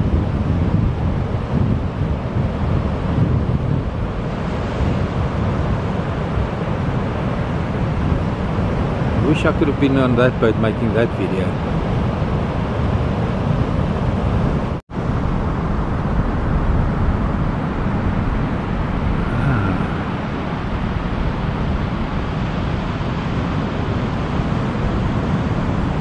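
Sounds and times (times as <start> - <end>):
surf breaking on shore: 0.0 - 26.0
wind: 0.0 - 26.0.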